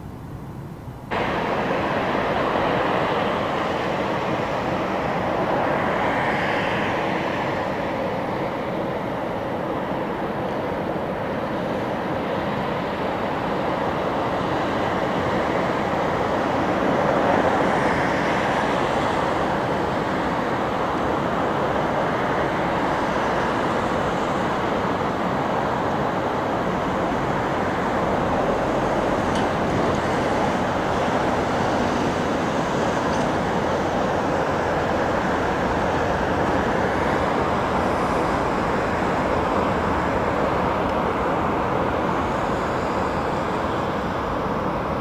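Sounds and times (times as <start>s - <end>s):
jet engine noise: 0.0s - 45.0s.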